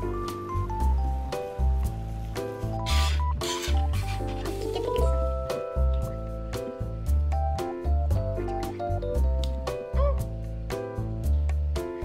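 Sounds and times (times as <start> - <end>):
light melody over bass line: 0.0 - 12.0.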